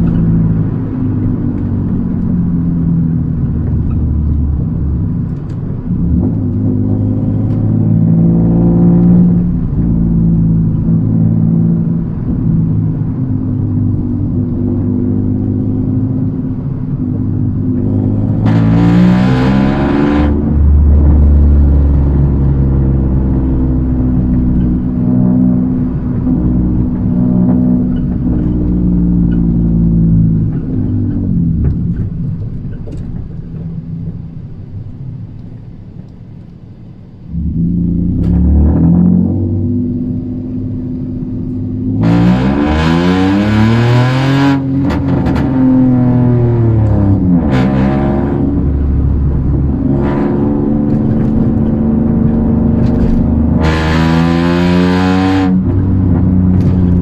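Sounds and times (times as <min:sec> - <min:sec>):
car engine heard from inside: 0:00.0 - 0:57.0.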